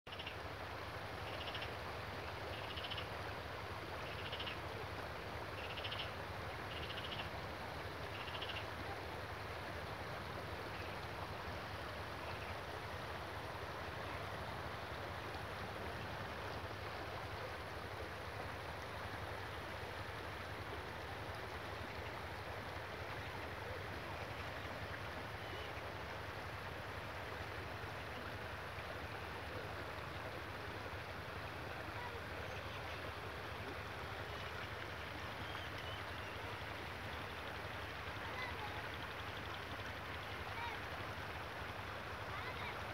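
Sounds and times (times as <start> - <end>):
river water rushing: 0.1 - 42.9.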